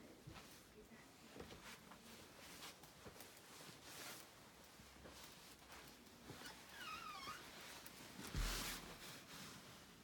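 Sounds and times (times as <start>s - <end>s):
faint soft rustling: 0.0s - 10.0s.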